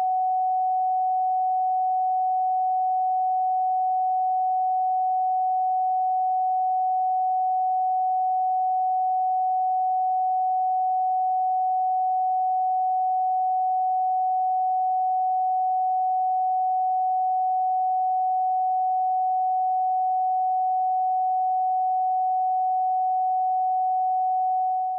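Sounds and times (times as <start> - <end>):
electronic sine tone: 0.0 - 24.9.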